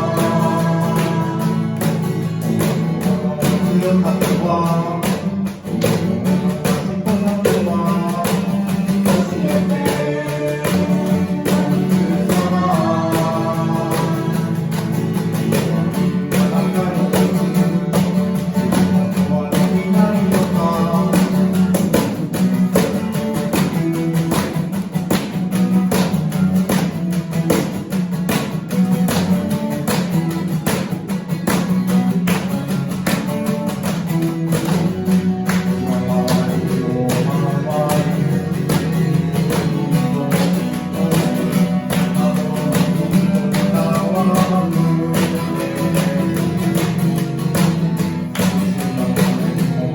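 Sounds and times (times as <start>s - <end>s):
strummed acoustic guitar: 0.0s - 49.9s.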